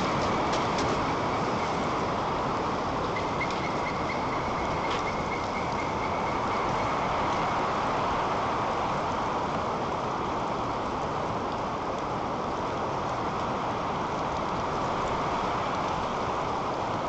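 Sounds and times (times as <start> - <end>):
strong wind on microphone: 0.0 - 17.0.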